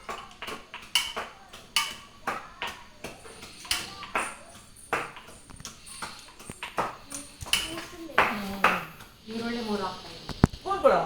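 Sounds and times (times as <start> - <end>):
utensils clinking against metal cookware: 0.0 - 11.0.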